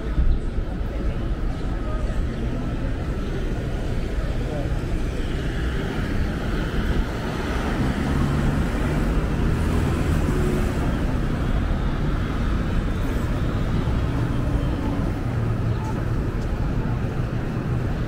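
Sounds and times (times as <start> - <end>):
traffic rumbling: 0.0 - 18.0.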